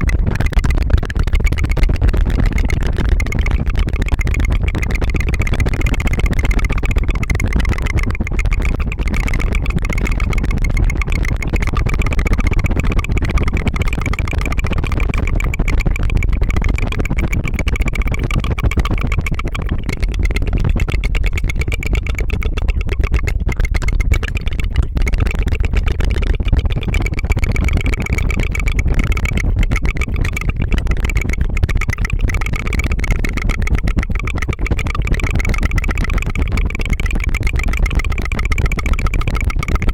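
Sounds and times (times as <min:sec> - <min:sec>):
rapid tongue fluttering trill: 0:00.0 - 0:39.9.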